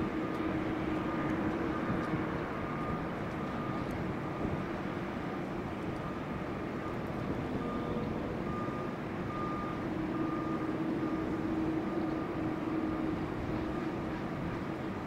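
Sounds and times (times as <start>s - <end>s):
engine rumble: 0.0s - 15.0s
vehicle reversing alarm beeping: 0.0s - 15.0s.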